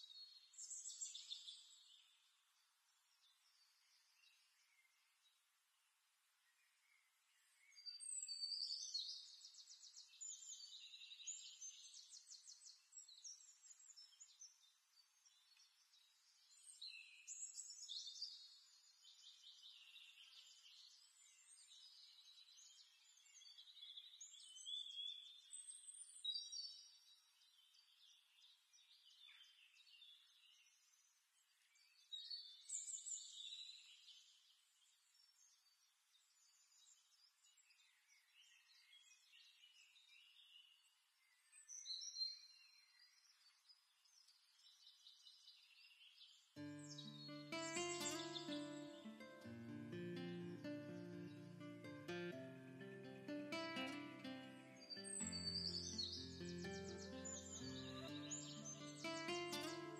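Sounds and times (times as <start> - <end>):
faint birdsong: 0.0 - 59.9.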